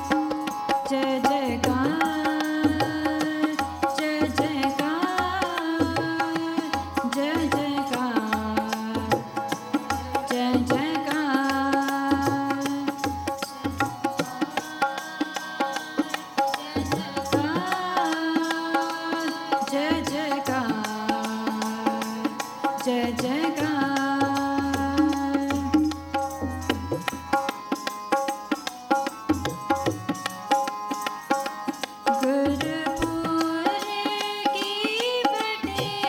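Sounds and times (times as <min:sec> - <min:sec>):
women singing: 0:00.0 - 0:26.7, 0:32.1 - 0:36.0
harmonium held notes: 0:00.0 - 0:36.0
tabla rhythm: 0:00.0 - 0:36.0.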